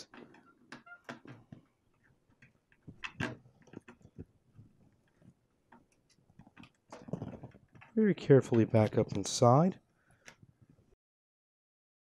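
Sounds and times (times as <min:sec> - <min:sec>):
wiring and plastic clicking: 0:00.0 - 0:09.3, 0:10.0 - 0:10.8.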